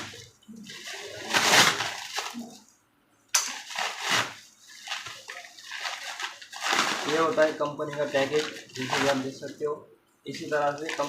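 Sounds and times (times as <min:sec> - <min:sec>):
packaging crinkling and rustling: 0:00.0 - 0:02.6, 0:03.4 - 0:09.4, 0:10.4 - 0:11.0.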